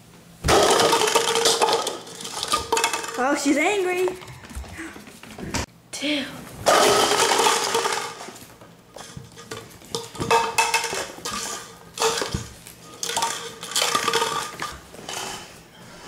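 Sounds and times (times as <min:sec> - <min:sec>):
plastic cups clattering on wood floor: 0:00.5 - 0:05.5, 0:06.6 - 0:15.5.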